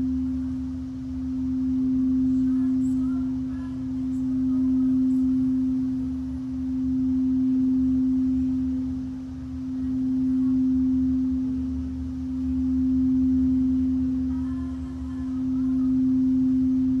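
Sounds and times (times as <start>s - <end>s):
singing bowl ringing: 0.0s - 17.0s.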